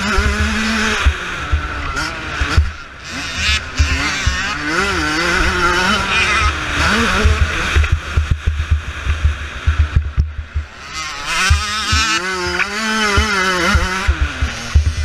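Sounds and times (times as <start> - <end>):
thumps from rough track: 0.0 - 1.7, 2.4 - 2.8, 3.4 - 15.0
two-stroke motorbike engine racing: 0.0 - 15.0.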